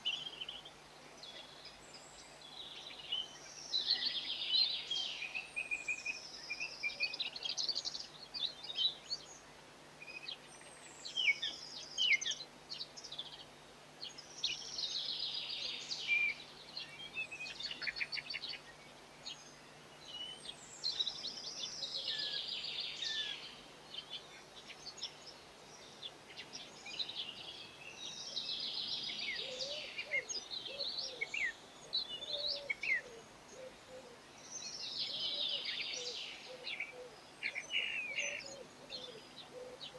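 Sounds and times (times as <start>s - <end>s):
small songbird singing: 0.0s - 39.9s.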